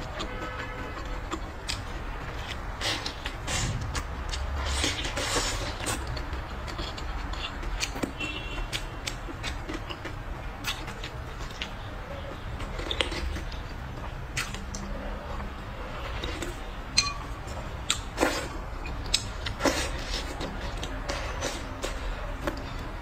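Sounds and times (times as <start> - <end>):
person chewing: 0.0 - 23.0.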